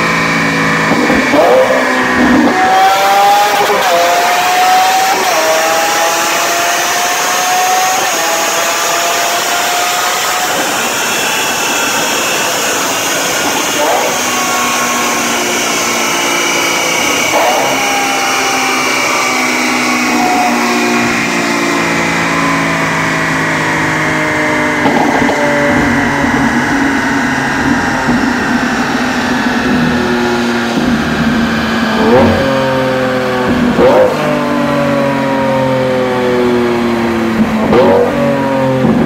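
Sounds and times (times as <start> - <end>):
car engine running on dynamometer: 0.0 - 39.0.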